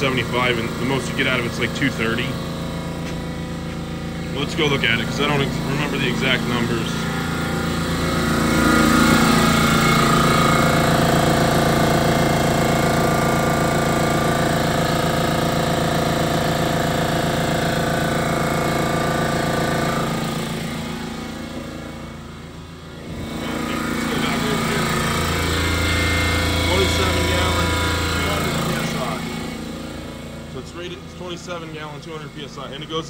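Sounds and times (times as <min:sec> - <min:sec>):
air compressor running: 0:00.0 - 0:33.0.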